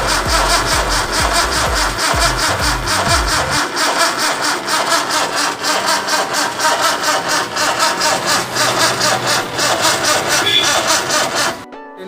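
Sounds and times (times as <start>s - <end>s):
starter motor cranking engine: 0.0s - 11.6s.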